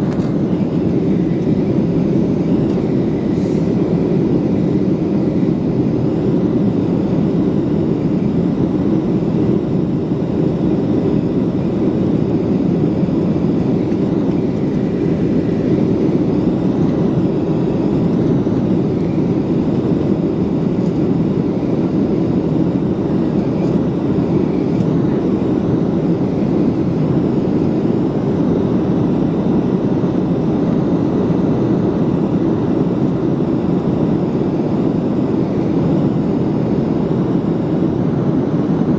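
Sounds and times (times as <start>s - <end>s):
jet engines heard from cabin: 0.0s - 38.9s.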